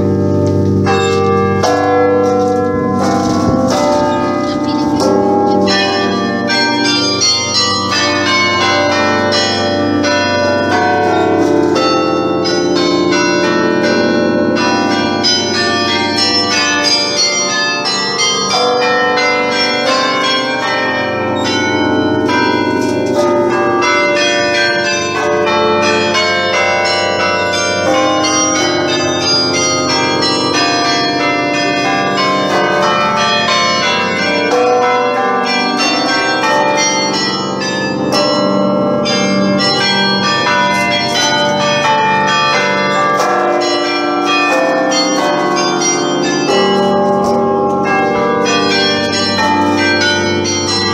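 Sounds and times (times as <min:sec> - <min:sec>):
carillon bells playing a tune: 0:00.0 - 0:50.9.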